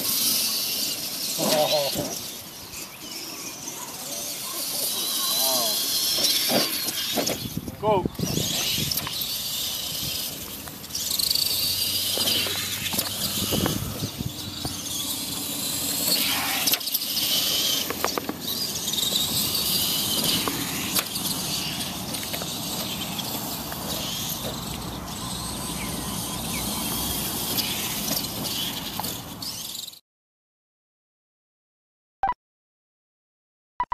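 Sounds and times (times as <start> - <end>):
electric motors whining: 0.0 - 30.0.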